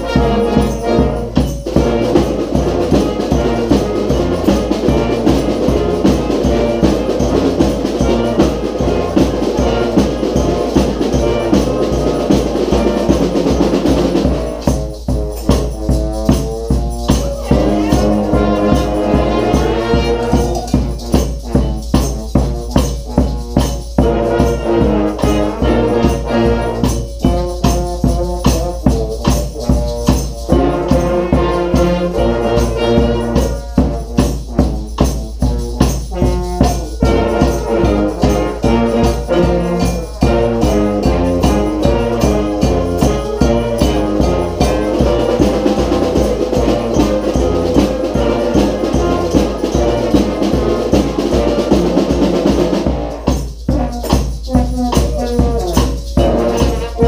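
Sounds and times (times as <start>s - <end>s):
brass band playing rock tune: 0.0s - 57.0s.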